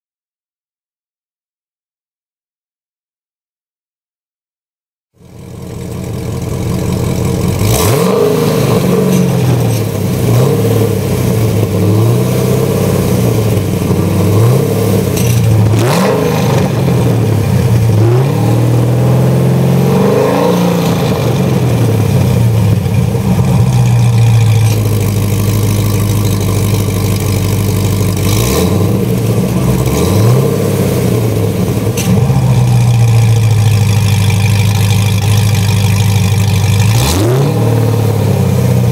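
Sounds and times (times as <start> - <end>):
car engine idling and revving: 5.2 - 38.9.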